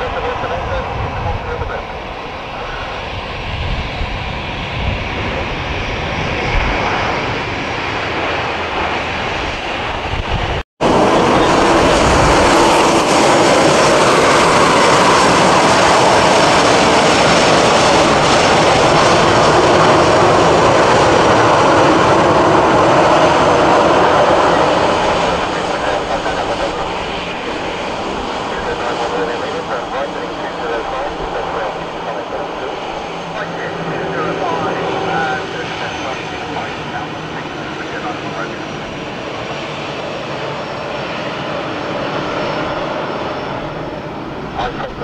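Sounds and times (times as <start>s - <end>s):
distant jet engine rumble: 0.0s - 45.0s
jet engines running nearby: 0.0s - 45.0s.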